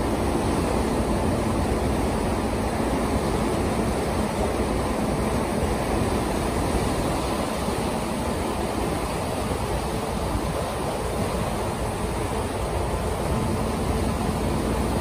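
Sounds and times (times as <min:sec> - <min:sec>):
water rushing from bow wave: 0:00.0 - 0:15.0.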